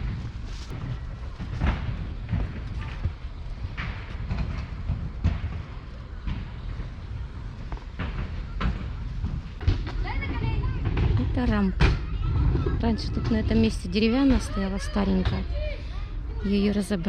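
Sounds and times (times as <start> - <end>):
skateboard wheels rolling on pavement: 0.0 - 15.8.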